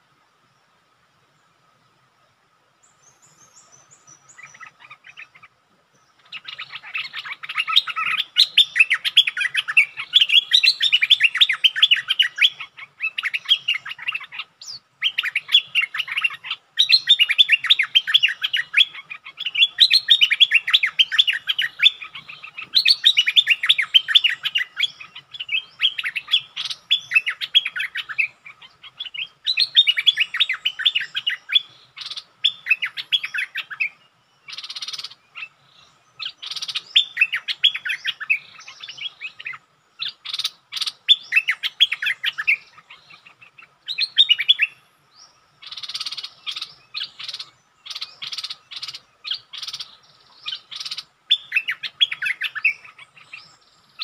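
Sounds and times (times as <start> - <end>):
bulbul chattering song: 6.2 - 54.0
harsh bird calls: 6.2 - 54.0.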